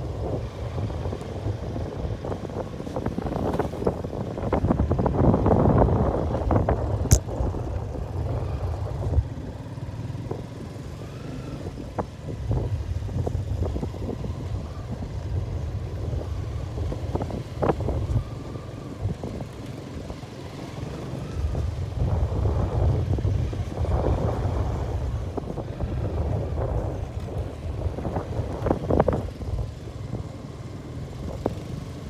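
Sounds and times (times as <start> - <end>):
motorbike engine and road rumble: 0.0 - 32.0
wind buffeting microphone: 0.0 - 32.0.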